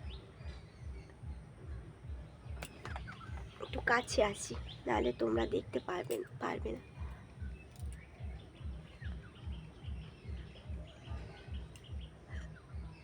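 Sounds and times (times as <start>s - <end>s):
faint bird chirps: 0.0s - 13.0s
low regular pulsing: 0.0s - 13.0s.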